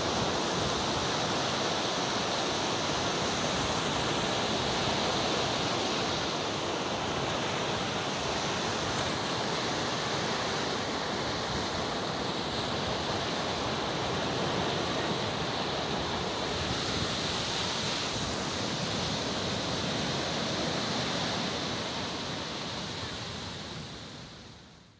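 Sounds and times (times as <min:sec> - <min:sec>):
sea waves washing onto beach: 0:00.0 - 0:24.6.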